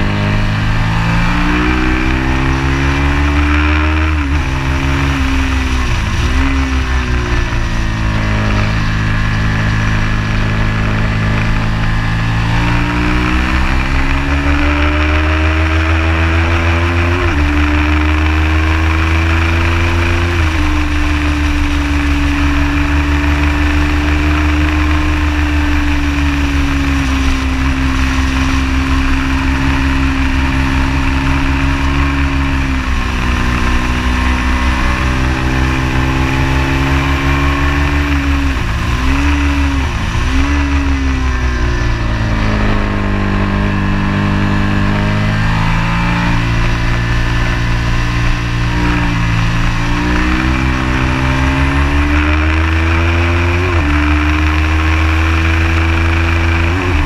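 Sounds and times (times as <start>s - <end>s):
motorcycle engine pulling hard: 0.0s - 57.0s.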